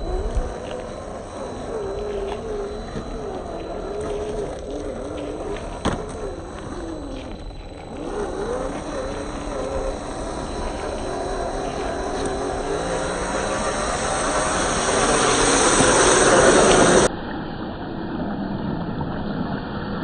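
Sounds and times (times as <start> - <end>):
toy car motor whining: 0.0 - 17.1
tyres on rough terrain: 0.0 - 17.1.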